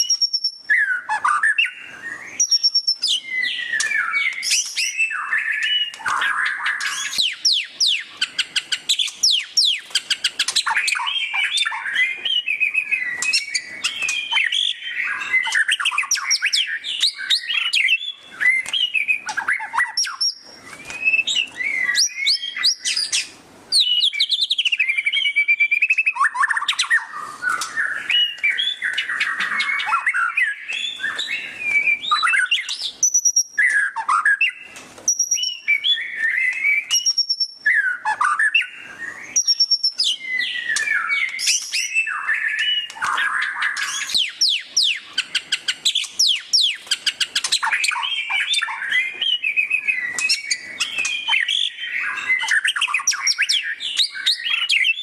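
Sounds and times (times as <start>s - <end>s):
songbird singing loudly: 0.0s - 55.0s.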